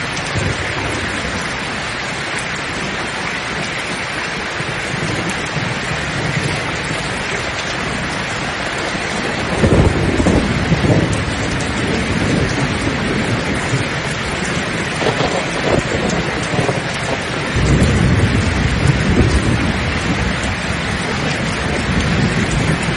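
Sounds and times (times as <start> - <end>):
heavy rain: 0.0 - 22.9
thunder rumbling: 0.0 - 22.9.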